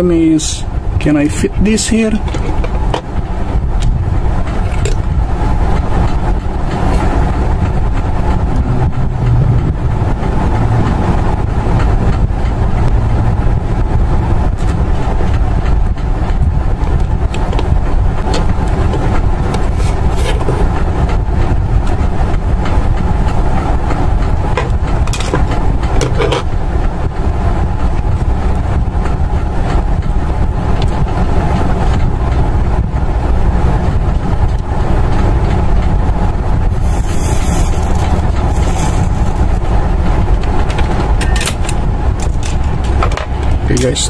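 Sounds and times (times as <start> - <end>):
low background rumble: 0.0 - 44.0.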